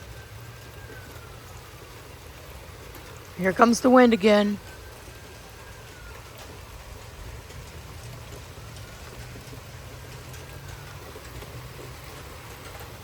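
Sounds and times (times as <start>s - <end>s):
rain: 0.0s - 13.0s
wind buffeting microphone: 0.0s - 13.0s.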